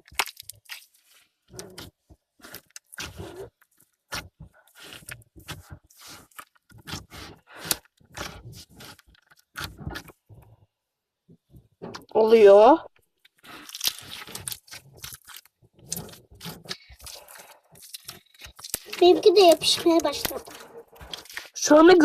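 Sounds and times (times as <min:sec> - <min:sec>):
hands kneading sticky slime: 0:00.0 - 0:10.6, 0:13.1 - 0:22.0.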